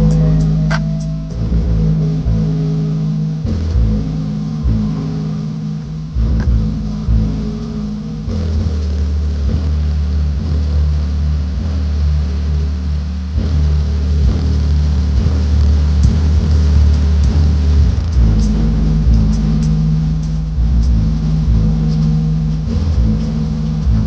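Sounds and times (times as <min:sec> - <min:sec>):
hip-hop music with deep bass: 0:00.0 - 0:24.0
long low bass note: 0:00.0 - 0:24.0.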